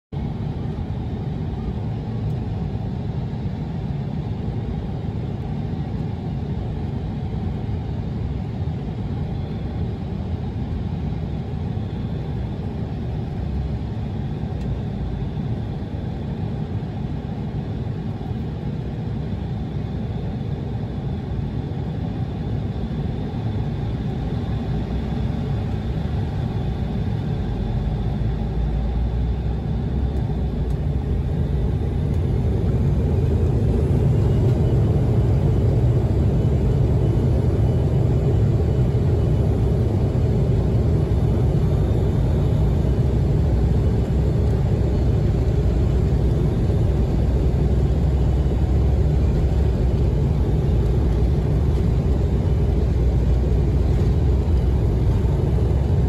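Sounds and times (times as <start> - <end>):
faint high engine whine: 0.1 - 56.0
jet cabin low rumble: 0.2 - 56.0.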